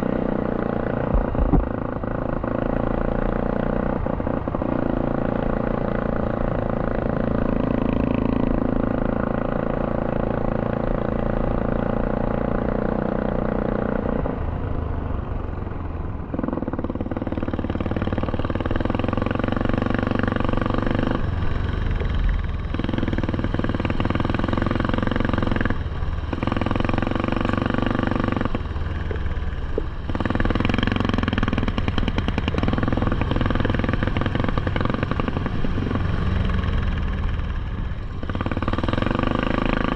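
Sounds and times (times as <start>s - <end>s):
atv engine revving: 0.0s - 14.4s, 16.3s - 39.9s.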